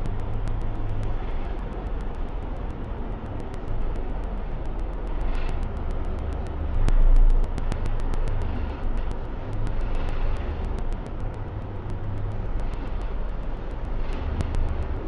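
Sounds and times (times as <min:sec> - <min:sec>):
rapid light clicking: 0:00.0 - 0:15.0.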